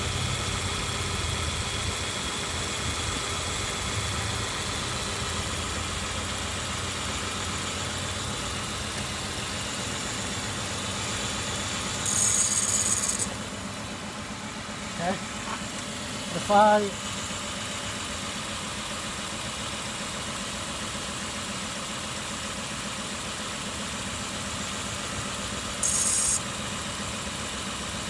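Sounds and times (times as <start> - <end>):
engine idling with misfire: 0.0 - 28.0.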